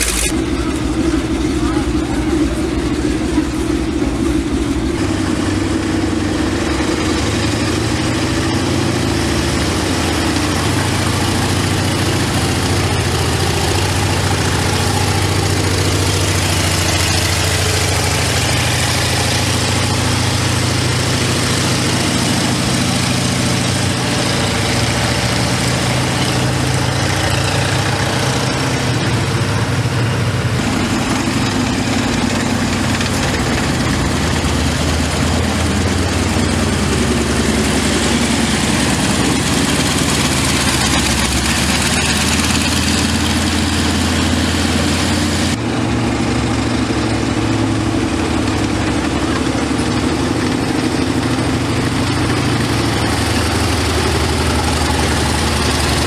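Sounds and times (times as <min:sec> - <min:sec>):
tank radial engine idling: 0:00.0 - 0:56.0.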